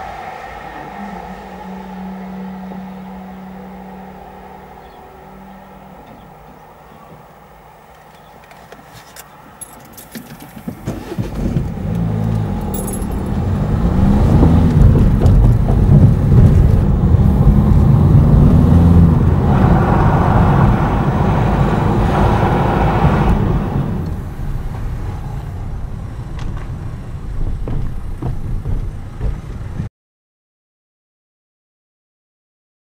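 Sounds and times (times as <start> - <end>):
vehicle engine passing by: 0.0 - 8.6, 10.8 - 29.9.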